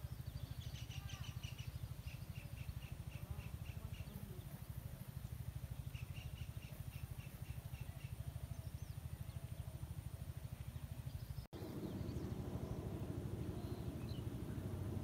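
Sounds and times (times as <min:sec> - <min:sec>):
bird chirping: 0:00.0 - 0:04.7, 0:05.8 - 0:15.0
low steady rumble: 0:00.0 - 0:15.0.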